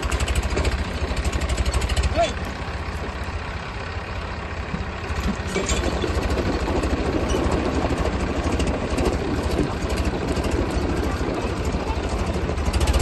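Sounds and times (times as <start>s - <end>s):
tractor engines under heavy load: 0.0s - 13.0s.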